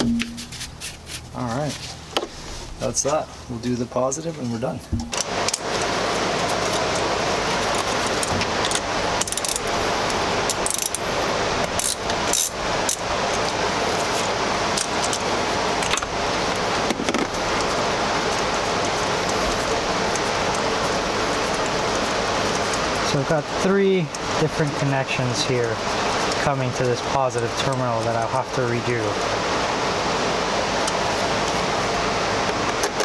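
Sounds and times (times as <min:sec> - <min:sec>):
steady hiss: 0:00.0 - 0:32.8.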